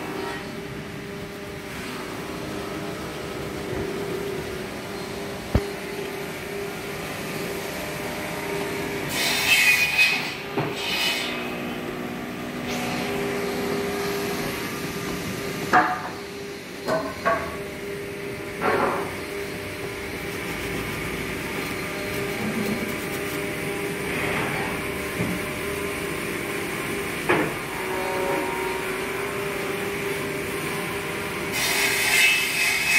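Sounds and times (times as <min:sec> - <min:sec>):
steady machine hum: 0:00.0 - 0:09.2, 0:11.2 - 0:31.6.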